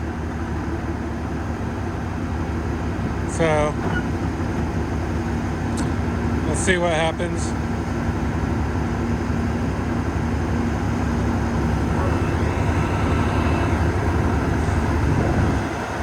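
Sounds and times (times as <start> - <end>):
large diesel engine running: 0.0 - 16.0.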